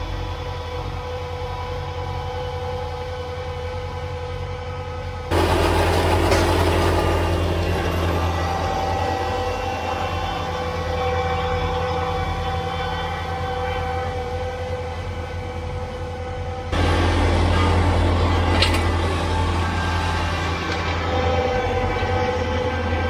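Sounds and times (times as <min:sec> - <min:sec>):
snowblower whining: 0:00.0 - 0:23.0
tractor diesel engine droning: 0:00.0 - 0:23.0.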